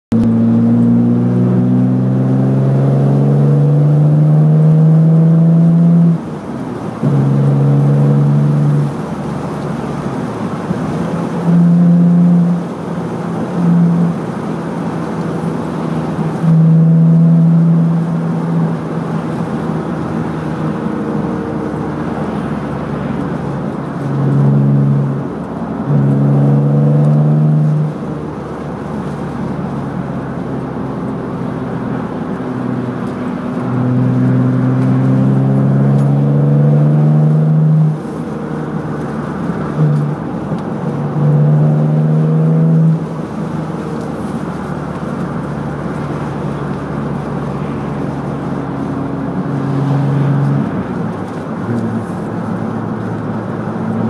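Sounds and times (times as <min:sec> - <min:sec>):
road noise: 0:00.0 - 0:54.0
car engine accelerating hard: 0:00.1 - 0:54.0.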